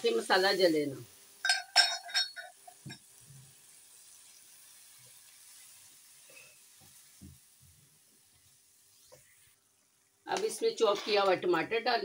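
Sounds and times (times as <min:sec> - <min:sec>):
food hissing and sizzling: 0:00.0 - 0:12.0.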